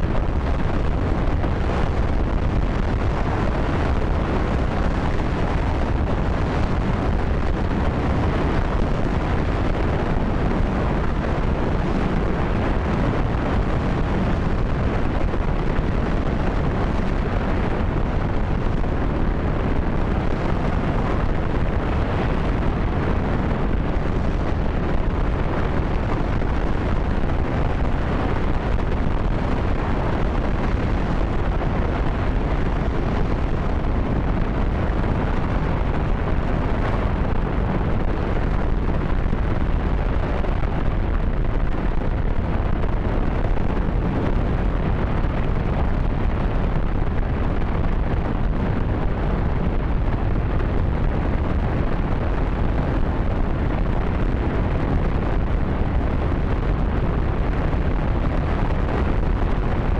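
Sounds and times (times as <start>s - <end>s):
rocket engine rumble: 0.0s - 59.9s.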